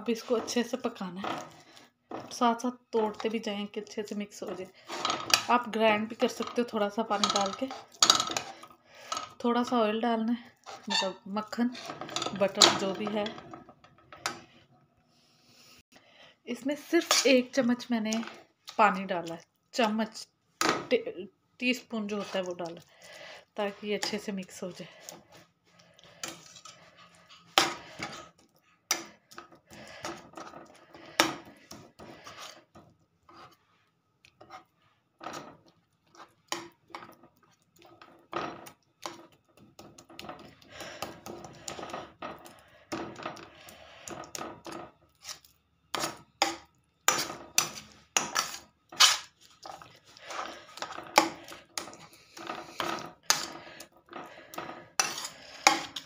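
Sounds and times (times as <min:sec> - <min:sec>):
spatula scraping metal frying pan: 0:00.0 - 0:09.8, 0:10.5 - 0:14.6, 0:17.0 - 0:18.5, 0:21.8 - 0:33.6, 0:34.4 - 0:35.6, 0:36.2 - 0:56.0.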